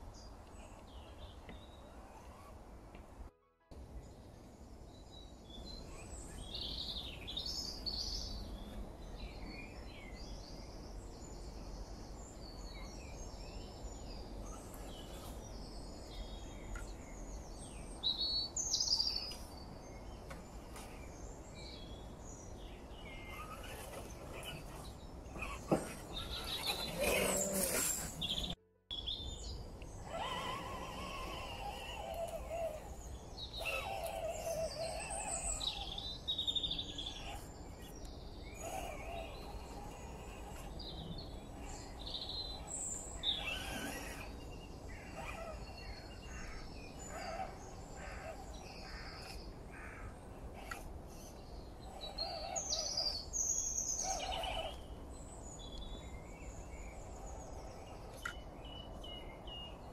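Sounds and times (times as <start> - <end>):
birds chirping: 0.0 - 59.9
outdoor background hiss: 0.0 - 59.9.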